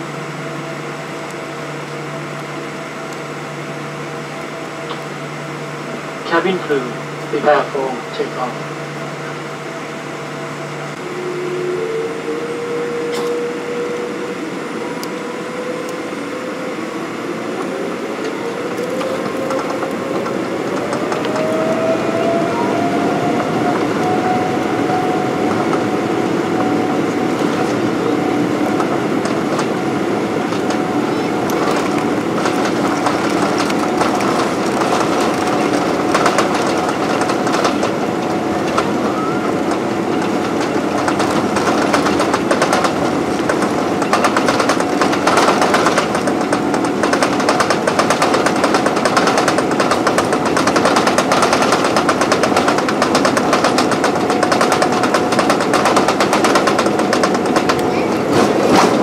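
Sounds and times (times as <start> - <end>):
jet engines whining: 0.0 - 59.0
wheels rumbling on runway: 10.9 - 59.0.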